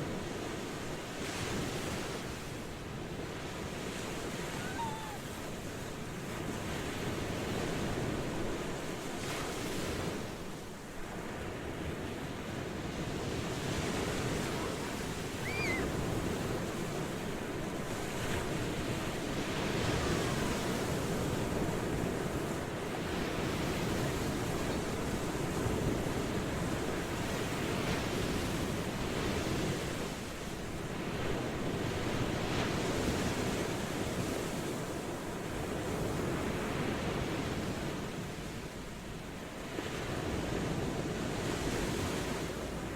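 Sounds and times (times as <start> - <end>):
ocean waves on shore: 0.0 - 42.9.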